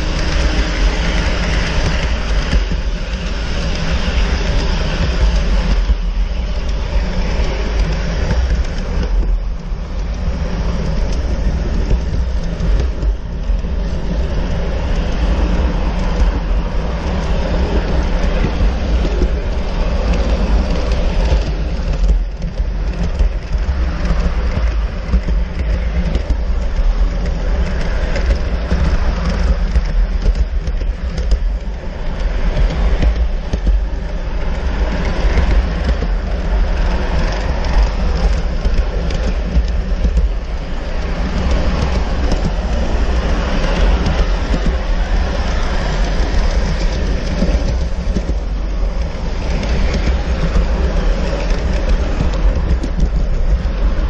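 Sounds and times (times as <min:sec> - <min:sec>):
model train wheels rumbling on rails: 0:00.0 - 0:54.0.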